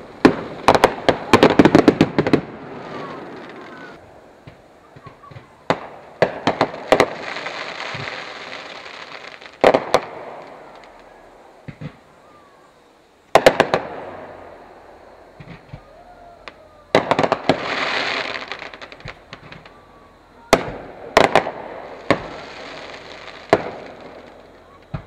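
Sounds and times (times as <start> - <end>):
fireworks hissing: 0.0 - 25.0
firework shells bursting in bangs: 0.2 - 12.1, 13.3 - 14.7, 15.3 - 19.8, 20.5 - 25.0.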